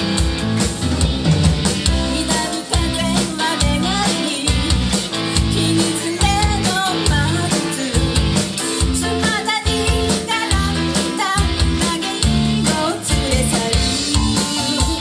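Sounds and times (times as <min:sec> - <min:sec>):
live pop-rock band: 0:00.0 - 0:15.0
woman singing: 0:01.9 - 0:15.0.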